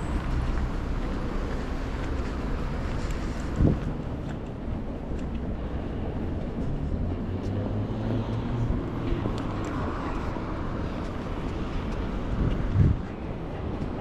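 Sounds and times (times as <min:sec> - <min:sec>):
passing vehicle rumble: 0:00.0 - 0:14.0.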